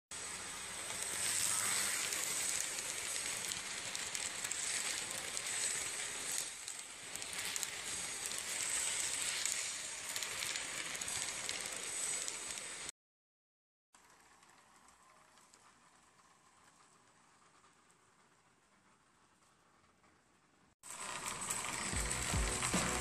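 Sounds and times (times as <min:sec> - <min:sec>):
model train wheels rattling: 0:00.2 - 0:12.9, 0:14.0 - 0:23.0.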